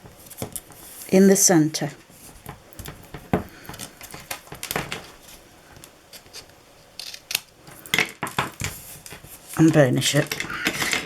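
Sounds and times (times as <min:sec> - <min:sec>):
paper rustling: 0:00.0 - 0:01.2, 0:01.9 - 0:11.0.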